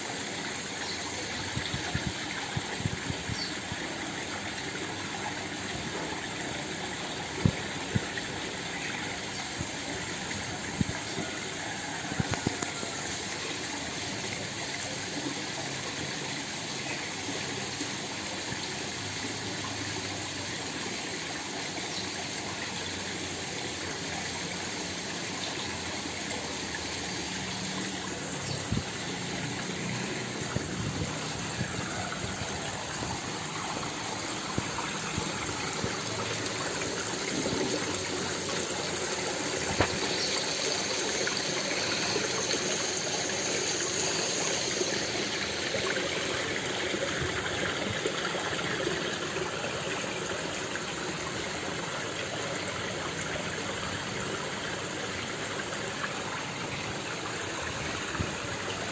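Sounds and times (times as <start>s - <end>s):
small waterfall rushing: 0.0s - 58.9s.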